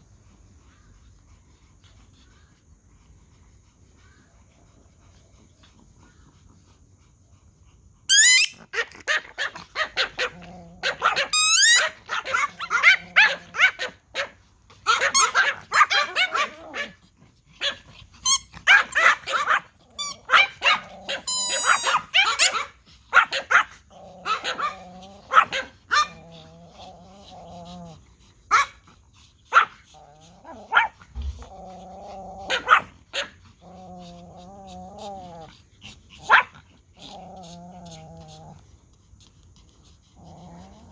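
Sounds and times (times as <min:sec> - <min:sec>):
small dogs yapping: 0:08.0 - 0:40.9.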